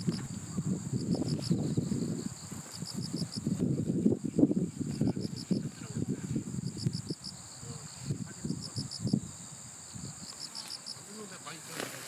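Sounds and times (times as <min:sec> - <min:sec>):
crickets chirping: 0:00.0 - 0:12.0
high insect trill: 0:00.0 - 0:12.0.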